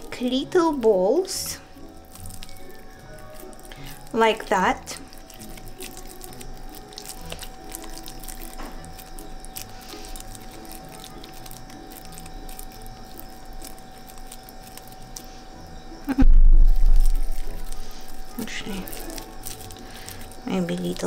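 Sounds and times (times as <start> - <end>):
wet squishing of hands kneading: 0.0 - 15.5, 16.1 - 21.0
quiet background music: 0.0 - 21.0.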